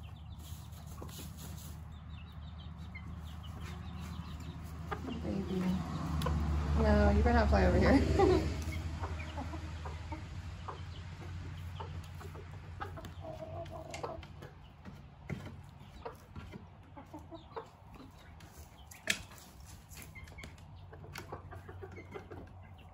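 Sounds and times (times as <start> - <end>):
chickens clucking softly: 0.0 - 6.6, 8.2 - 22.9.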